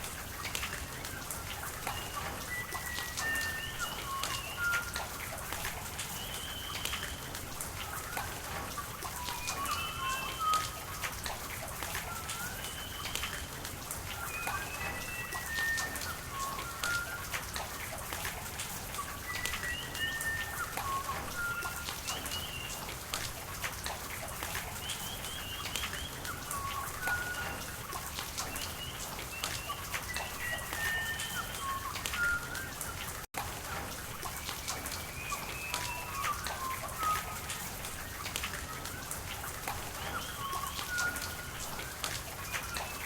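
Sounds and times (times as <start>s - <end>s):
running water hiss: 0.0s - 43.0s.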